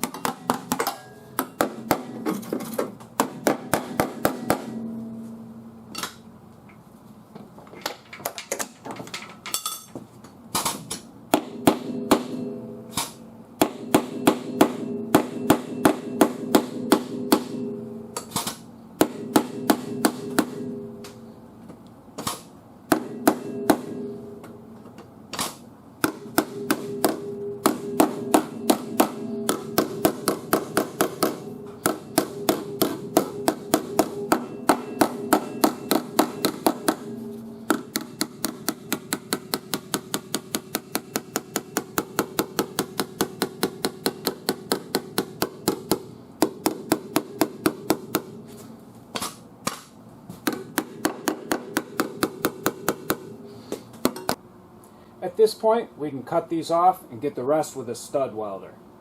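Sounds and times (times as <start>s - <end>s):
hammer striking sheet metal: 0.0s - 6.3s, 10.6s - 21.4s, 22.2s - 24.8s, 25.4s - 48.6s, 49.2s - 54.4s.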